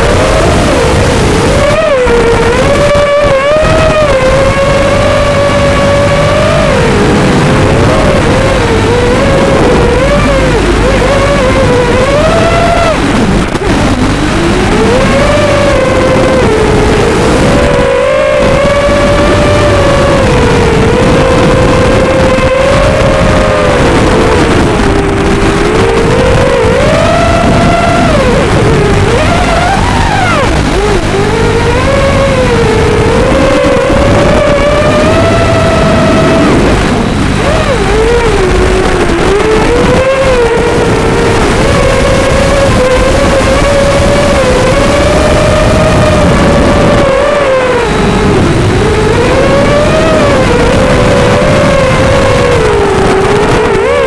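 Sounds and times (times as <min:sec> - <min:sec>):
drone motors buzzing: 0:00.0 - 0:54.0
quadcopter propellers whining: 0:00.0 - 0:54.0.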